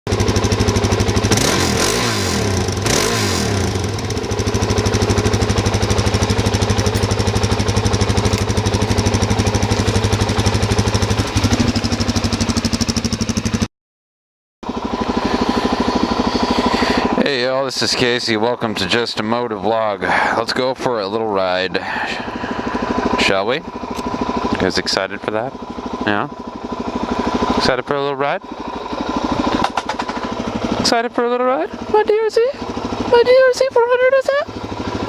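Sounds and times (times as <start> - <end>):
motorcycle engine idling and revving: 0.1 - 13.7, 14.6 - 35.0.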